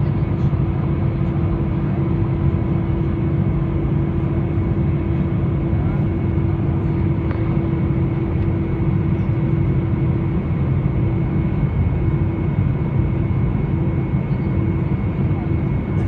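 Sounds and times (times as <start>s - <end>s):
airliner engines and airflow drone: 0.0s - 16.0s
constant low hum: 0.0s - 16.0s.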